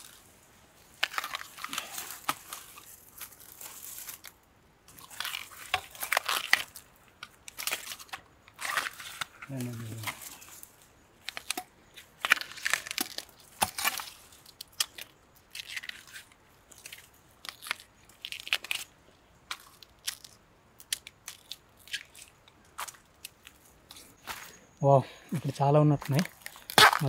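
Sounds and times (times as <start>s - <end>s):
bamboo sheath crackling tears: 0.0s - 24.2s, 26.0s - 27.0s.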